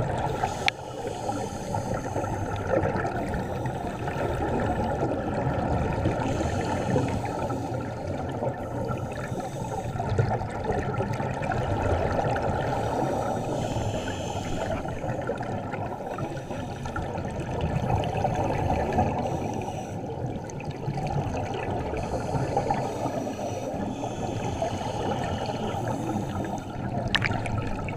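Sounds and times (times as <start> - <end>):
muffled underwater rushing: 0.0 - 27.9.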